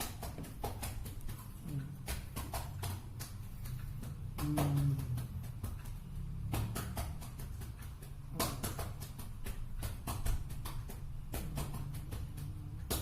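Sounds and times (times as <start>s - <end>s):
palm clapping on a back: 0.0s - 13.0s
steady low hum: 0.0s - 13.0s.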